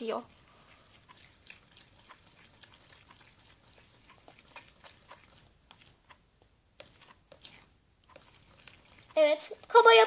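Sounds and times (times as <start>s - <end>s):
spoon stirring sticky slime: 0.0s - 10.0s.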